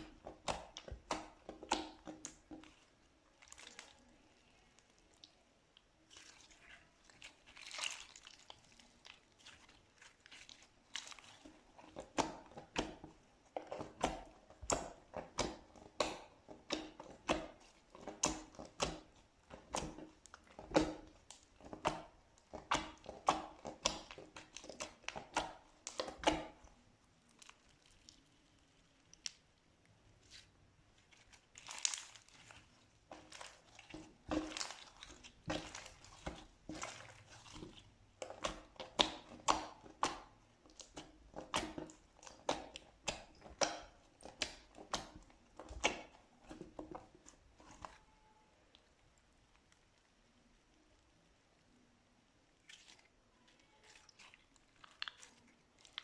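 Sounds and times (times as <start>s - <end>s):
slime squelching by hand: 0.0s - 51.1s, 52.3s - 56.0s.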